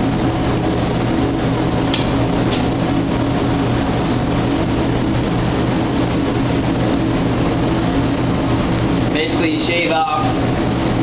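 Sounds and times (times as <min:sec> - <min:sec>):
mechanical drone with low hum: 0:00.0 - 0:11.0.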